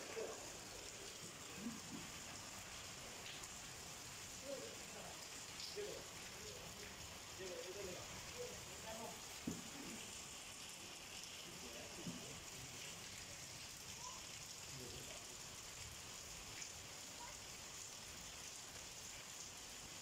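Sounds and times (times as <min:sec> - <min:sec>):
heavy rain on standing water: 0:00.0 - 0:20.0.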